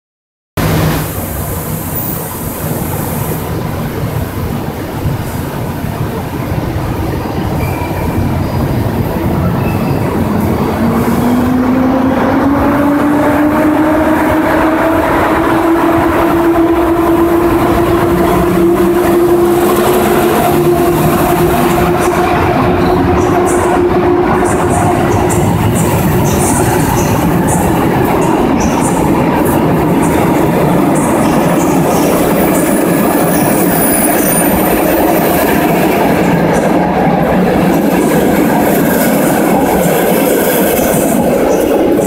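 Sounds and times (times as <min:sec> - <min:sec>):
electric locomotive rumble: 0:00.6 - 0:42.0.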